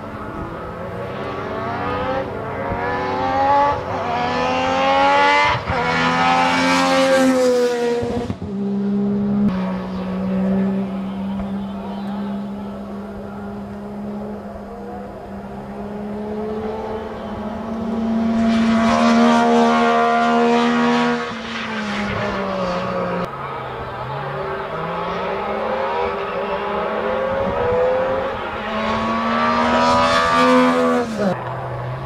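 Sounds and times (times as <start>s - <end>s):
rally car engine accelerating: 0.0s - 32.0s.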